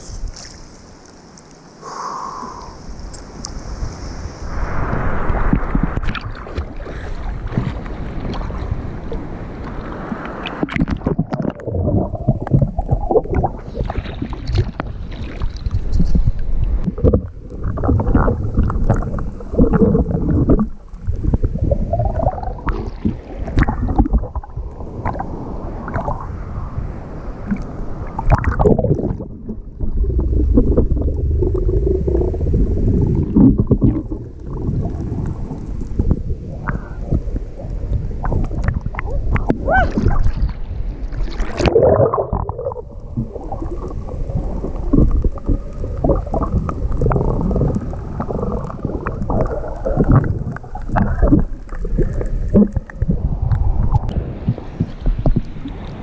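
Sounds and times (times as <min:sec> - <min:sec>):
sea water splashing and gurgling: 0:00.0 - 0:56.0
surf rumble: 0:00.0 - 0:56.0
wind: 0:00.0 - 0:56.0.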